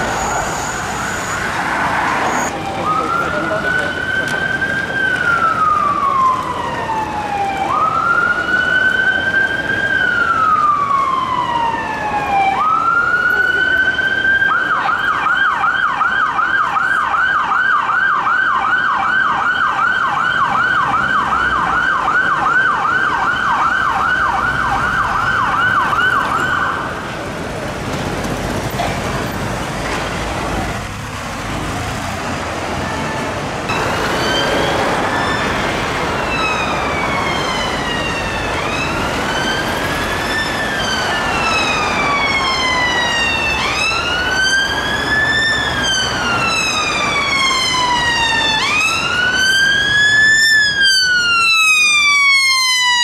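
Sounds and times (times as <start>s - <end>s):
slow wailing siren: 0.0s - 27.0s, 32.7s - 53.0s
road traffic noise: 0.0s - 53.0s.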